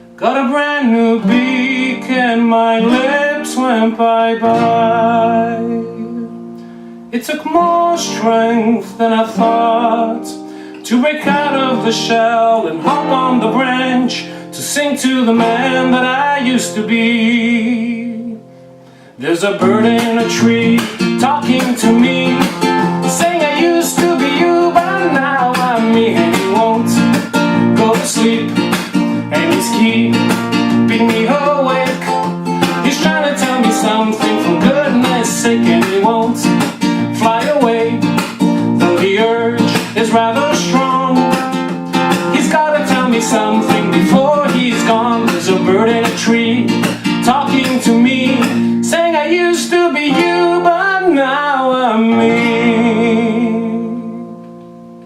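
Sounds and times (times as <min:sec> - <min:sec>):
acoustic guitar strumming: 0:00.0 - 0:55.0
person singing: 0:00.2 - 0:18.4, 0:19.2 - 0:54.5.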